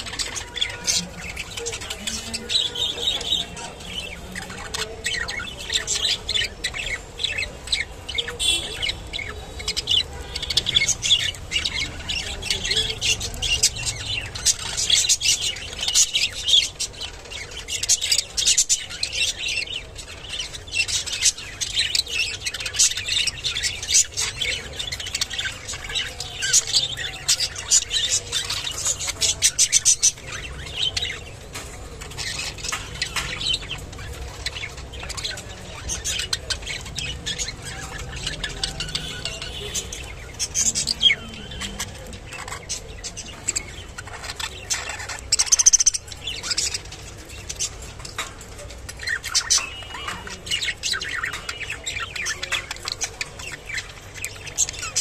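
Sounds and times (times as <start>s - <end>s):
budgerigars chattering and chirping: 0.0s - 55.0s.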